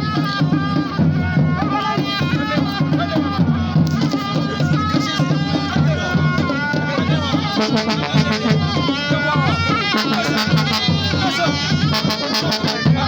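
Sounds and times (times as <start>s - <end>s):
loud drum beat: 0.0s - 13.0s.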